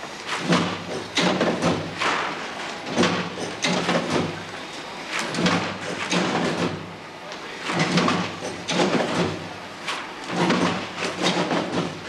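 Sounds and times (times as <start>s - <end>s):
factory machinery clattering: 0.0s - 12.0s
steady machine hum: 0.0s - 12.0s.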